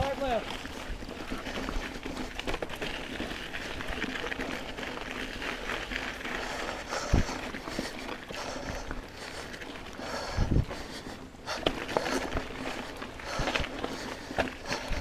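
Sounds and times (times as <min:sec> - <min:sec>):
bike rattling and clicking: 0:00.0 - 0:15.0
bike tyres on dirt trail: 0:00.0 - 0:15.0.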